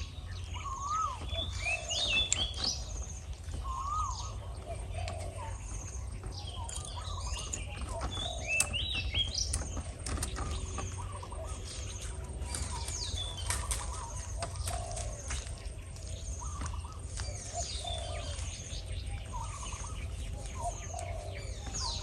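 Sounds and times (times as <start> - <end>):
doves cooing: 0.0 - 22.0
small birds chirping: 0.0 - 22.0.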